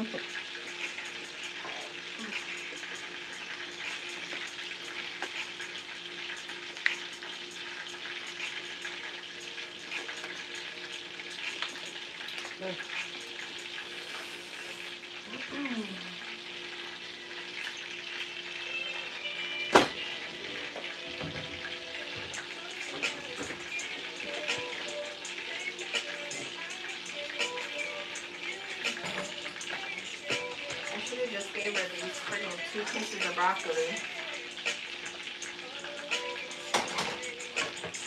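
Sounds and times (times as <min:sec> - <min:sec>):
chicken sizzling in a skillet: 0:00.0 - 0:38.0.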